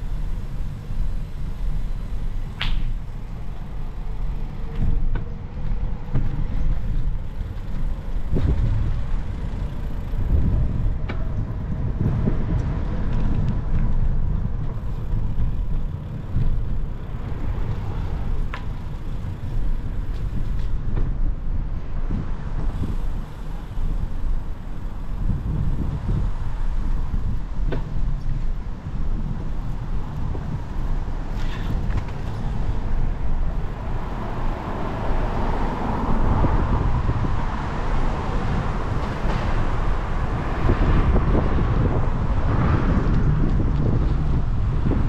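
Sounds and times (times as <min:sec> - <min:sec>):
low rumble of road traffic: 0:00.0 - 0:45.0.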